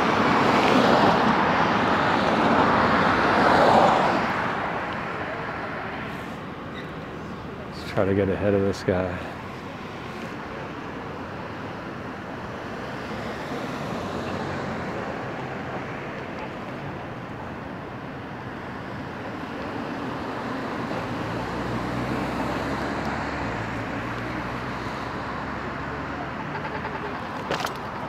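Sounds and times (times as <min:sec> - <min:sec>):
passing vehicle engine hum: 0:00.0 - 0:28.0
road noise: 0:00.0 - 0:28.0.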